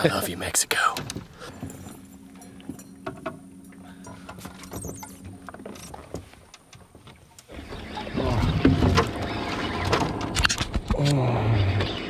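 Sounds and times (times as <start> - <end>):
faint mechanical hum: 0.0 - 12.0.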